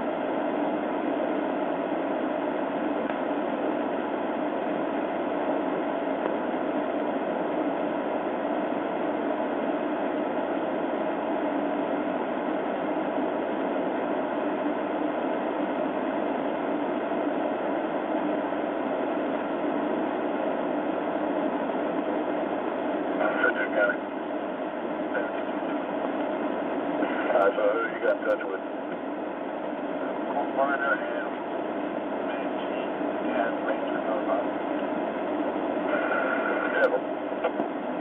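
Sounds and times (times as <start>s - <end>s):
steady noise with faint hum: 0.0s - 38.0s.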